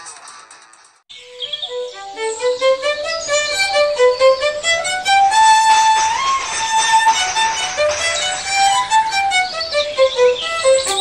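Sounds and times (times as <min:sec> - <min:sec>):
slow violin melody: 0:01.2 - 0:11.0.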